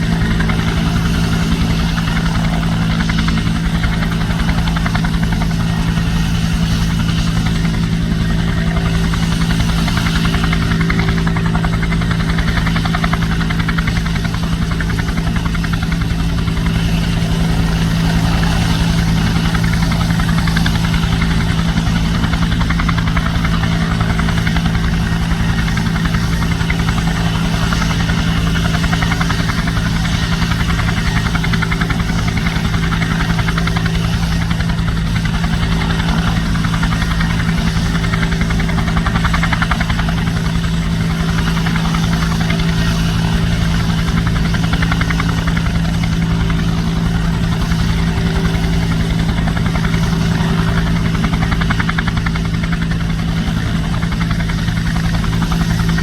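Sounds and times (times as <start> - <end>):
helicopter engine droning: 0.0 - 56.0
helicopter rotor beating: 0.0 - 56.0.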